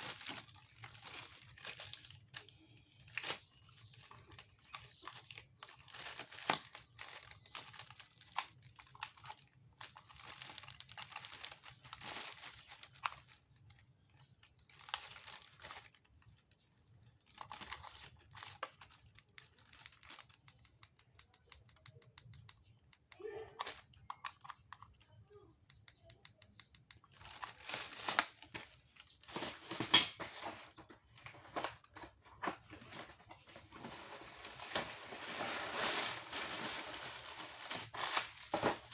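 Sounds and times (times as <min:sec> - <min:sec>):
packaging crinkling and tearing: 0:00.0 - 0:16.5, 0:17.2 - 0:20.7, 0:27.0 - 0:38.9.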